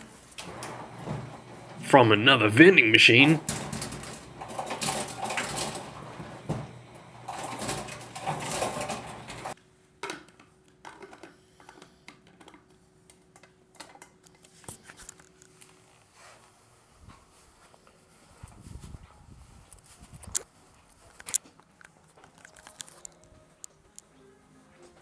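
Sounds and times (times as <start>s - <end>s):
faint machine hum: 0.0s - 25.0s.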